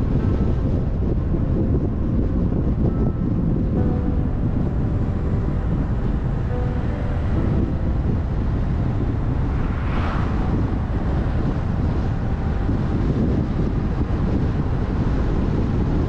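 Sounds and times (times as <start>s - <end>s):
road noise: 0.0s - 16.0s
wind rumble on microphone: 0.0s - 16.0s.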